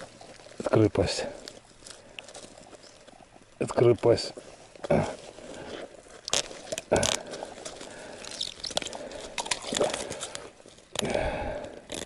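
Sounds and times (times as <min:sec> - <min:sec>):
ice and slush crunching and scraping: 0:00.0 - 0:11.1.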